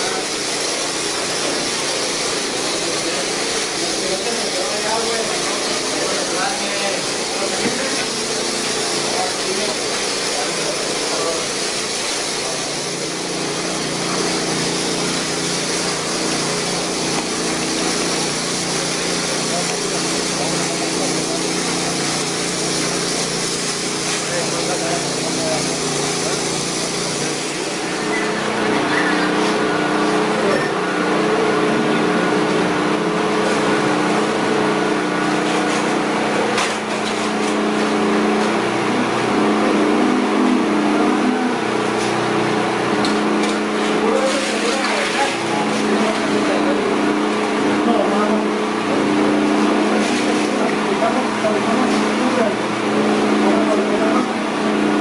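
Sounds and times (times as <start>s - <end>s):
motor running steadily with hiss: 0.0s - 55.0s.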